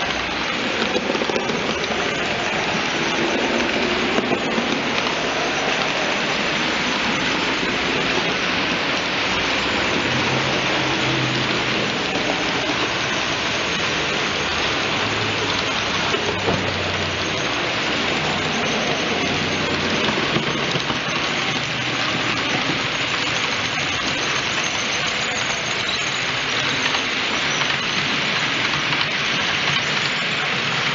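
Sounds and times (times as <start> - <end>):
model train wheels rattling on rails: 0.0 - 30.9.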